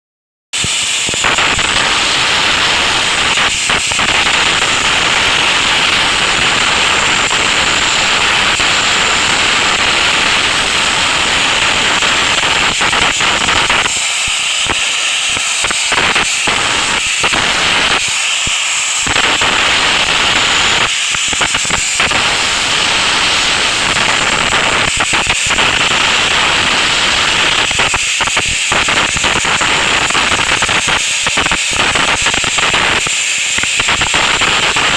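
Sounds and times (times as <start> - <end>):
abrasive blasting nozzle hissing: 0.6 - 34.9.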